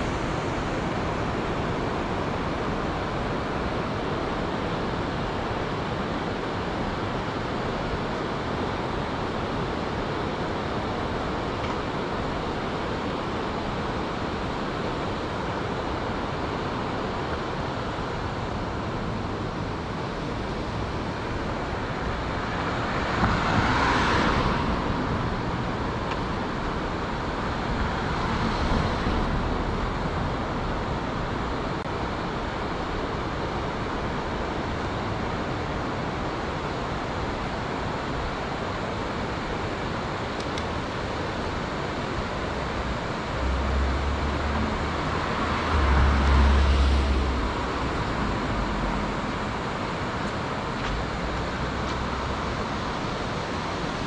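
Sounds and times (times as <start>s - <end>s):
outdoor background rush: 0.0s - 54.0s.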